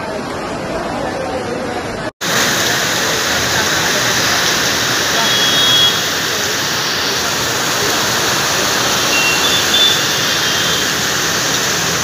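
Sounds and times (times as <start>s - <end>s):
heavy rain pouring: 2.2s - 12.0s.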